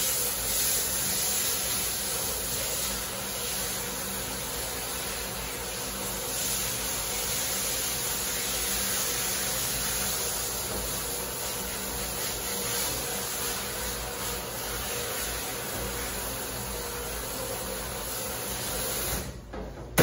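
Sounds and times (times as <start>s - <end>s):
shower sprayer water splashing: 0.0s - 19.4s.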